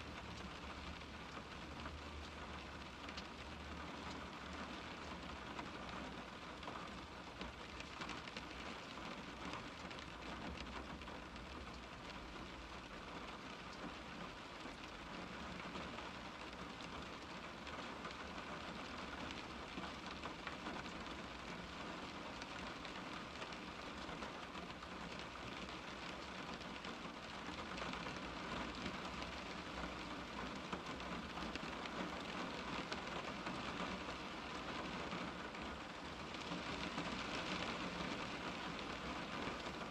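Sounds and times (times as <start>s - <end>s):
rain pattering on car window: 0.0s - 39.9s.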